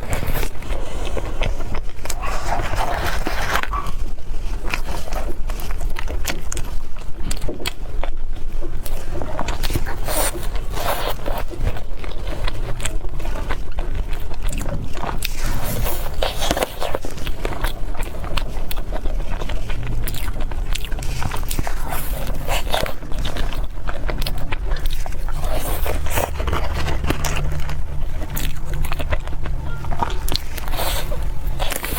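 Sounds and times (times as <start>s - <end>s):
chewing and biting soft cakes: 0.0s - 31.9s
steady low hum: 0.0s - 31.9s.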